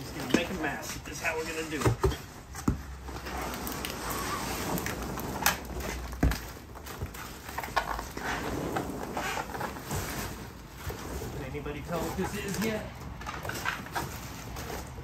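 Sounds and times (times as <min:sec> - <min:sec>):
cardboard box rustling and crackling: 0:00.0 - 0:15.0.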